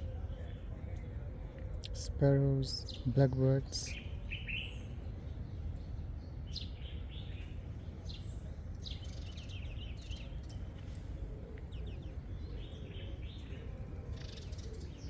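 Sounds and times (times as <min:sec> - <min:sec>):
small birds chirping: 0:01.8 - 0:15.0.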